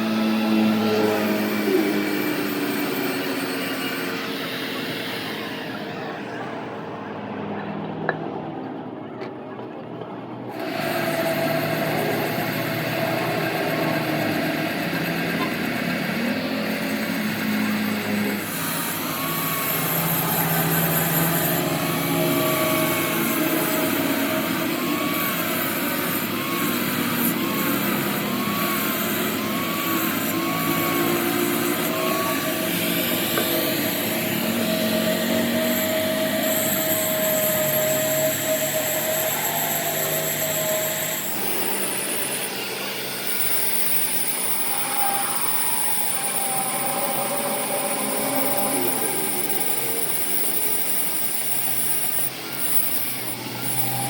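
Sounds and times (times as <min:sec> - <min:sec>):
machine running: 0:00.0 - 0:08.9, 0:10.3 - 0:54.0.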